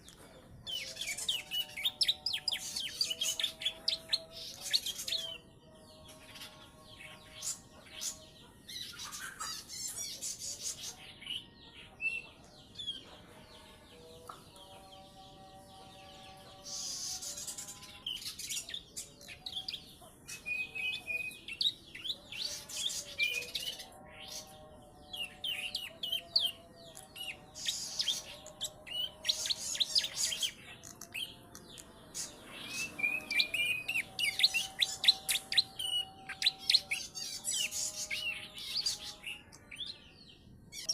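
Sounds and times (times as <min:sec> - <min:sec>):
bird singing high chirps and trills: 0:00.0 - 0:40.9.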